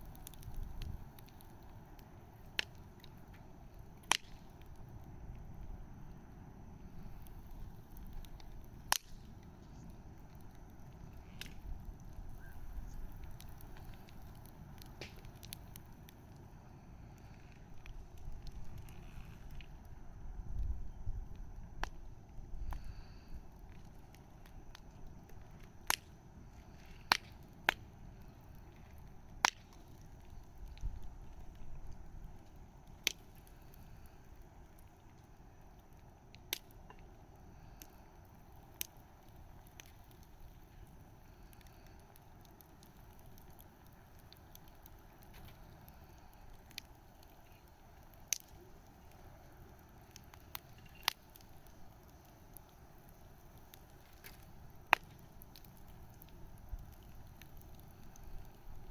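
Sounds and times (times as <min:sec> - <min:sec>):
soft steady hiss: 0:00.0 - 0:58.9
wood fire crackling and popping: 0:00.0 - 0:58.9.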